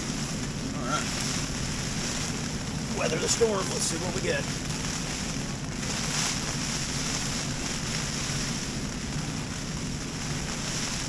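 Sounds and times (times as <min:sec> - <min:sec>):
rain beating on tent: 0:00.0 - 0:11.0
storm wind: 0:00.0 - 0:11.0
wind buffeting microphone: 0:00.0 - 0:11.0.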